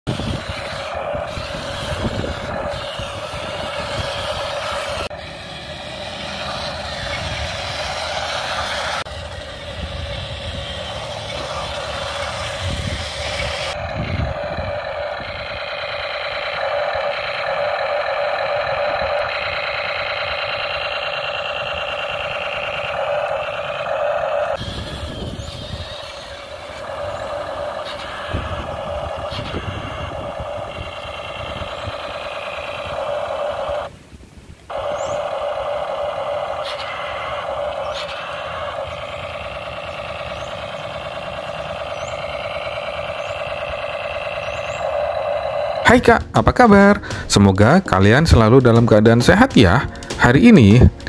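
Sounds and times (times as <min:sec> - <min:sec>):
electronic tank engine sound effect: 0:00.1 - 0:33.9, 0:34.7 - 0:49.8
small drive motors whirring: 0:00.1 - 0:33.9, 0:34.7 - 0:46.0.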